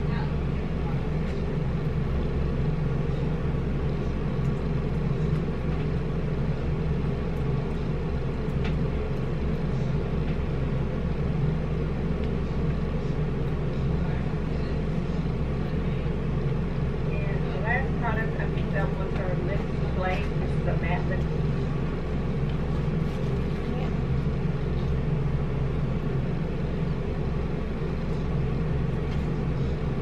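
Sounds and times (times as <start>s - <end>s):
low rumbling hum: 0.0s - 30.0s.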